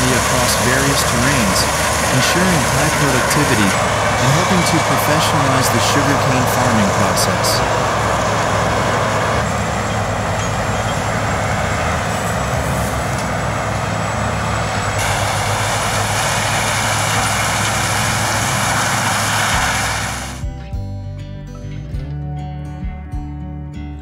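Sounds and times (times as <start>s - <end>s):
dense rushing noise: 0.0s - 20.4s
harvester engine running: 0.0s - 20.6s
acoustic guitar music: 0.0s - 24.0s.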